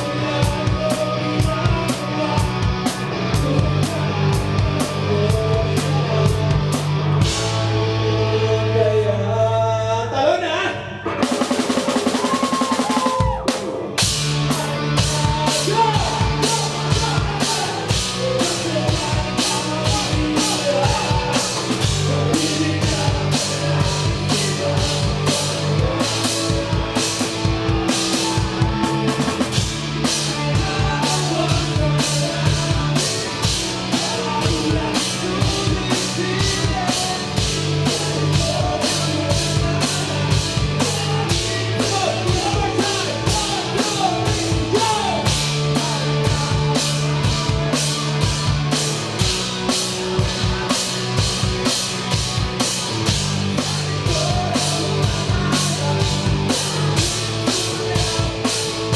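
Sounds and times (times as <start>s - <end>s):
live rock band playing: 0.0s - 9.0s, 11.1s - 58.9s.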